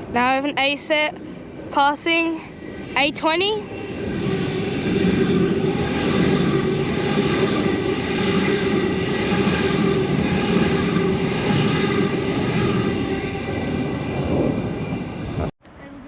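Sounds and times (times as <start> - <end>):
train wheels rumbling on rails: 0.2 - 15.5
electric train motor whine: 2.6 - 15.5.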